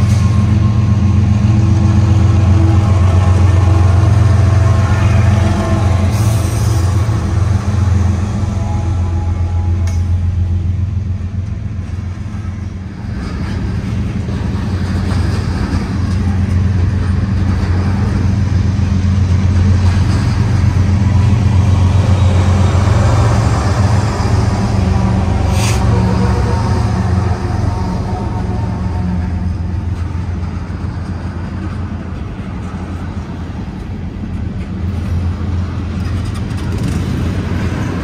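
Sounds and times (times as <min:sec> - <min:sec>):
diesel locomotives droning: 0:00.0 - 0:38.0
freight cars rolling past: 0:00.0 - 0:38.0.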